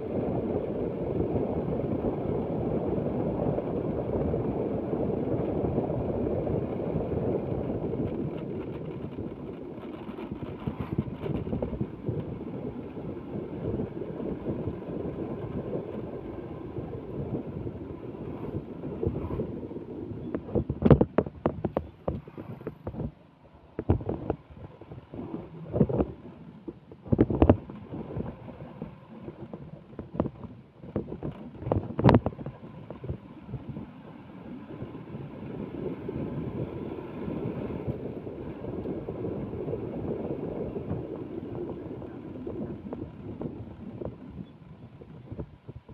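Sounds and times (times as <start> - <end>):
wind and road noise: 0.0 - 45.9.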